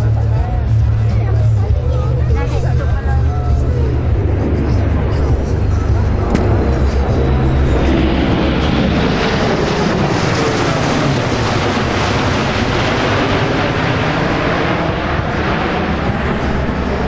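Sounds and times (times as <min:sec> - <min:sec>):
jet engines overhead: 0:00.0 - 0:17.0.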